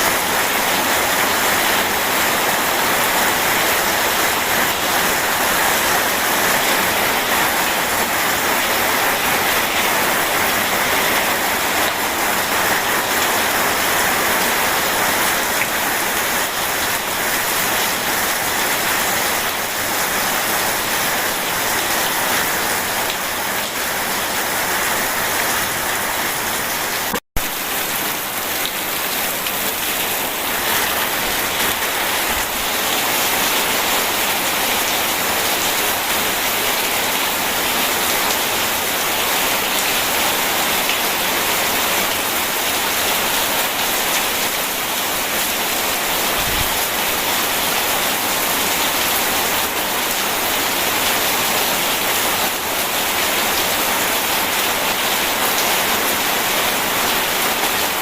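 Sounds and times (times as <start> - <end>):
dense rainfall: 0.0 - 58.0.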